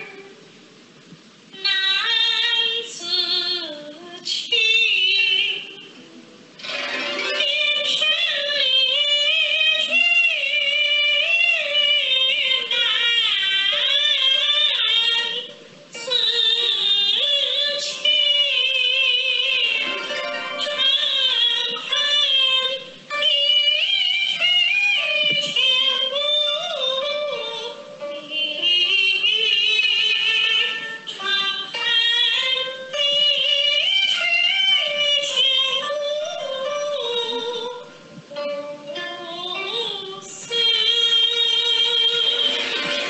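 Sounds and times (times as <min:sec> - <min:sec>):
woman singing opera: 0:00.0 - 0:00.4, 0:01.5 - 0:06.0, 0:07.2 - 0:43.0
instrumental accompaniment: 0:05.9 - 0:43.0.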